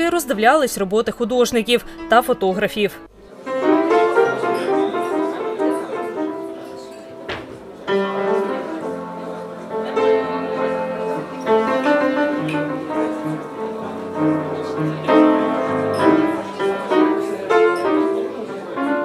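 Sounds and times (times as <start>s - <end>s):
upright piano melody: 0.0s - 19.0s.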